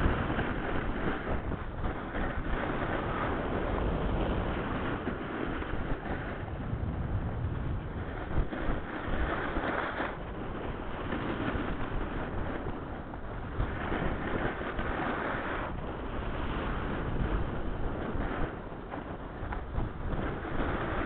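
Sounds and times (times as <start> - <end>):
snowboard sliding on snow: 0.0 - 21.0
wind buffeting microphone: 0.0 - 21.0.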